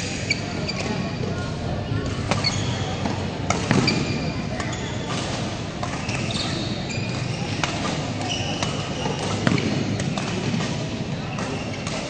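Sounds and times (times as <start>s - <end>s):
shoes squeaking on court: 0.0s - 1.3s, 2.2s - 10.1s, 11.4s - 12.0s
sports hall murmur: 0.0s - 12.0s
rackets striking shuttlecock: 2.0s - 12.0s.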